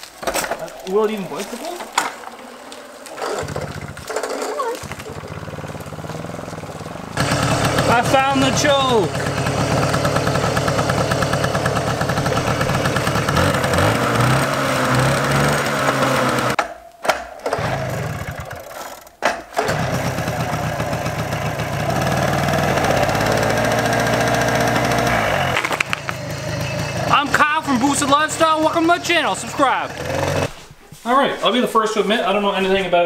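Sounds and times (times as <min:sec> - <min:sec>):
moped engine running: 0:00.2 - 0:16.6, 0:17.5 - 0:19.0, 0:19.6 - 0:30.5.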